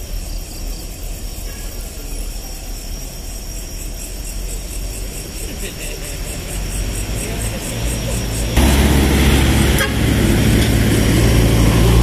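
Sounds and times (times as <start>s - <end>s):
crickets chirping: 0.0s - 12.0s
road traffic rumble: 0.0s - 12.0s.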